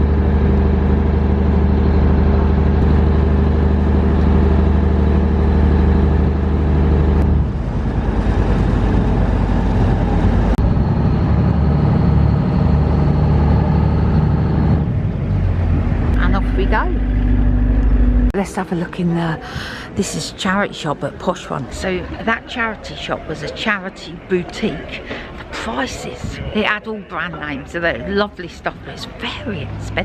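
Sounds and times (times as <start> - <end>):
ferry engine humming: 0.0 - 30.0.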